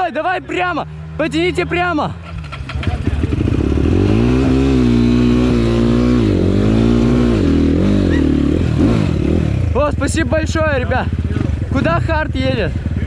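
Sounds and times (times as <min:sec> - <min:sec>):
motorcycle engine revving: 0:01.2 - 0:13.0.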